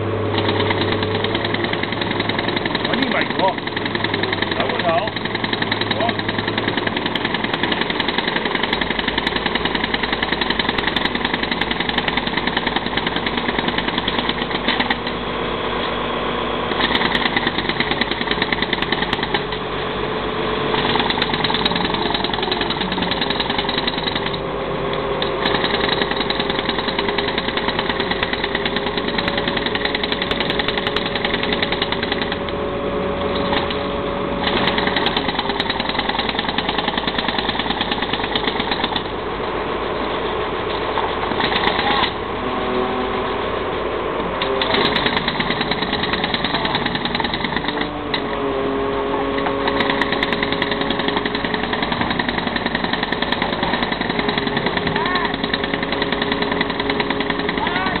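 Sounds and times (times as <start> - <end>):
engine running: 0.0 - 58.0
jackhammer breaking concrete: 0.3 - 15.2, 16.8 - 19.6, 20.7 - 32.6, 33.2 - 39.2, 41.2 - 42.2, 44.4 - 48.4, 49.4 - 58.0.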